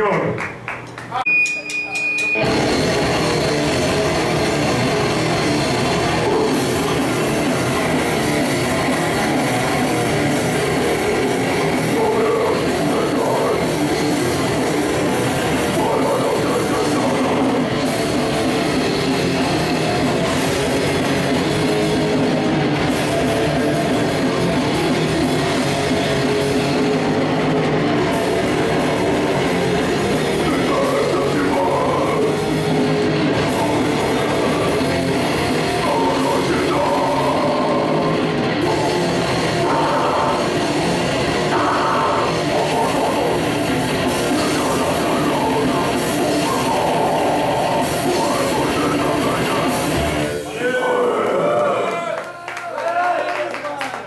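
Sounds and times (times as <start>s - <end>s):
drums: 0.0s - 54.0s
distorted electric guitar: 1.6s - 50.6s
bass guitar: 2.3s - 51.0s.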